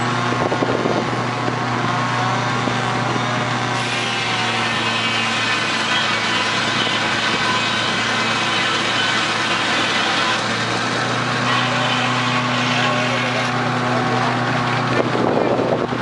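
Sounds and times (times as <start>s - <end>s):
sawmill machinery running: 0.0s - 16.0s.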